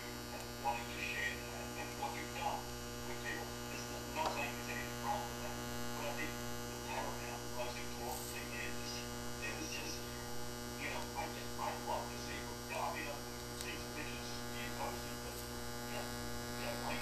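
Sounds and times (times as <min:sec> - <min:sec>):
welding arc humming: 0:00.0 - 0:17.0.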